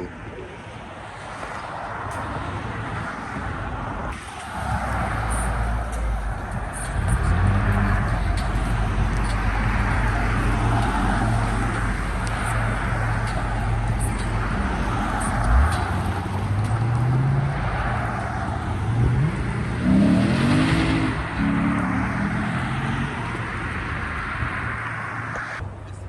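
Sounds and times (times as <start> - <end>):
car engines running: 0.0 - 26.0
traffic noise: 0.0 - 26.0
car engine revving: 2.9 - 25.6.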